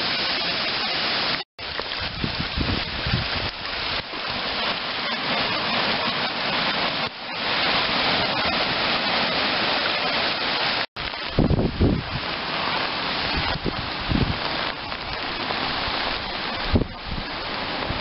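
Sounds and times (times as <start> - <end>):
heavy rain: 0.0 - 18.0
surf washing over cobbles: 0.0 - 18.0.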